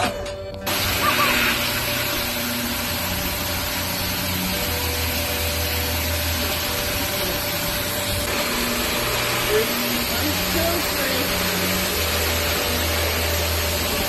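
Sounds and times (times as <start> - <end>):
steady mechanical hum: 0.0 - 14.0
rushing hiss: 0.6 - 14.0.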